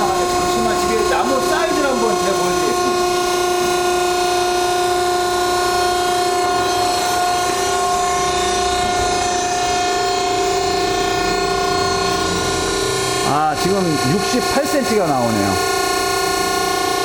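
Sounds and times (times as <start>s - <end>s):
hydraulic log splitter idling: 0.0s - 17.0s.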